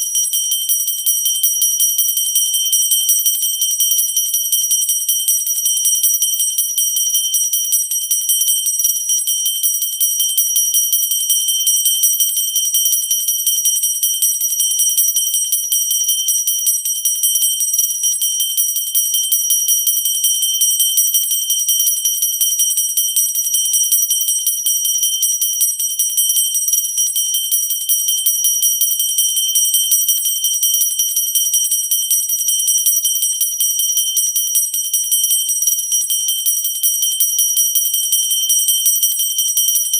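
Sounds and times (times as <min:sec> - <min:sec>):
hand bell ringing: 0:00.0 - 0:39.9.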